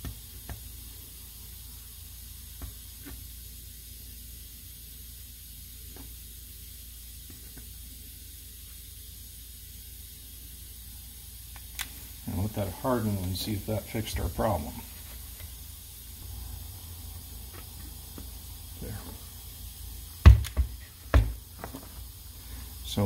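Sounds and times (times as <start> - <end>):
solder sizzling hiss: 0.0 - 23.0.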